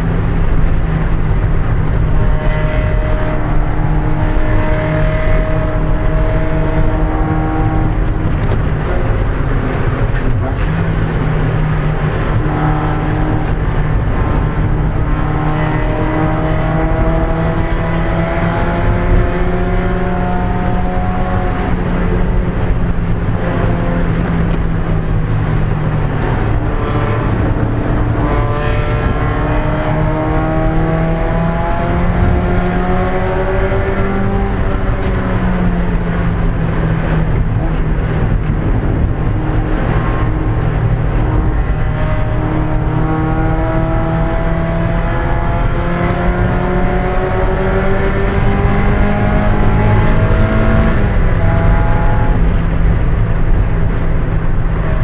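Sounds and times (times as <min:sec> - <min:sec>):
car engine accelerating and shifting: 0:00.0 - 0:55.0
road and wind noise: 0:00.0 - 0:55.0.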